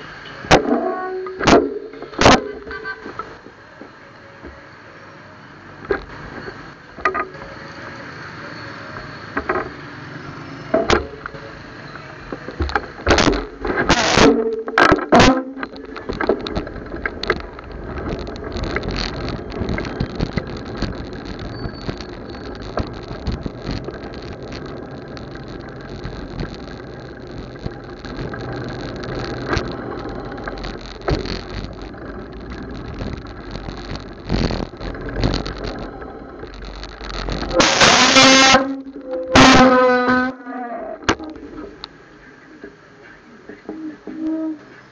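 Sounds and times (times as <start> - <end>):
bicycle rattles and knocks: 0.0 - 4.6, 5.8 - 7.5, 9.0 - 9.8, 10.7 - 11.4, 12.3 - 40.4
road traffic noise: 0.0 - 44.9.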